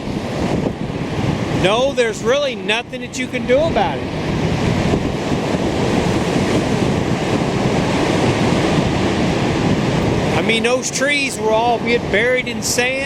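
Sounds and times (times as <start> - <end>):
waves breaking on shore: 0.0 - 13.0
wind buffeting microphone: 0.0 - 13.0.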